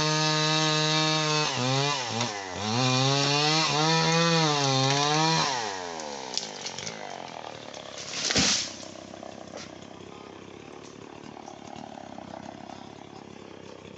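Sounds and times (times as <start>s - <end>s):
chainsaw engine idling: 0.0s - 13.9s.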